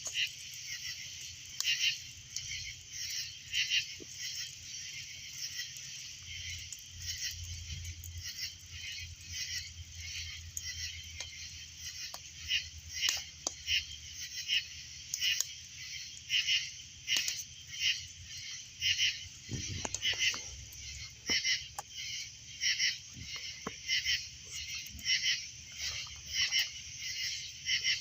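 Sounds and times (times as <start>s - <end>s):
campfire hissing and crackling: 0.0s - 28.0s
night chorus of chirping calls: 0.0s - 28.0s.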